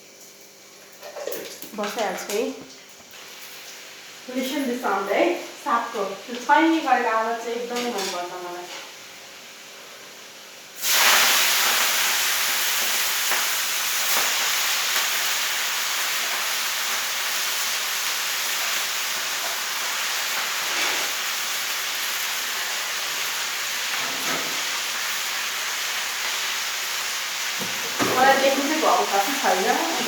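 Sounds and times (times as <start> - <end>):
greens sizzling in hot oil: 0.0 - 30.0.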